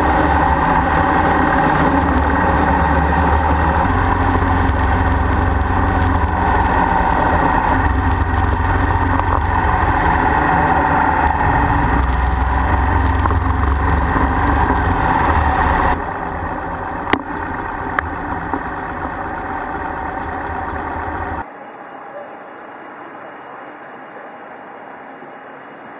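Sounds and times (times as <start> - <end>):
motorcycle engine running: 0.0 - 21.4
wind noise: 0.0 - 21.4.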